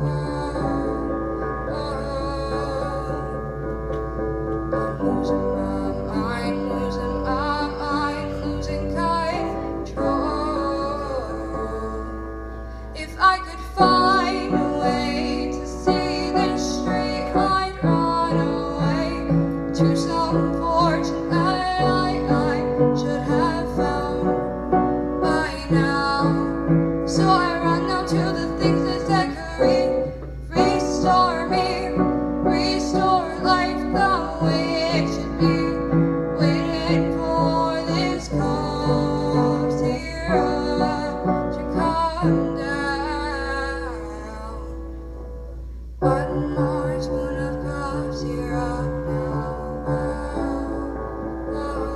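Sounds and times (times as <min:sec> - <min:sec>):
woman singing: 0:00.0 - 0:45.0, 0:46.0 - 0:51.9
piano chords: 0:00.0 - 0:51.9.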